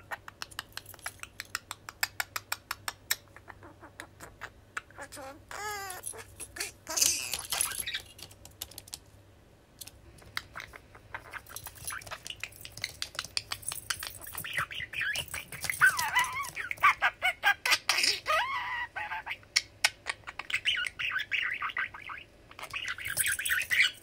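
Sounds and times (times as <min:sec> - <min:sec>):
budgie warbling and chirping: 0:00.0 - 0:02.4, 0:03.1 - 0:08.2, 0:10.2 - 0:24.0.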